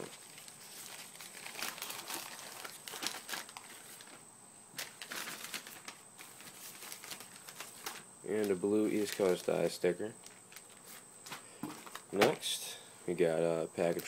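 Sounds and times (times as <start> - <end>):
plastic mailer crinkling: 0.0 - 4.2, 4.8 - 12.5, 13.8 - 14.0.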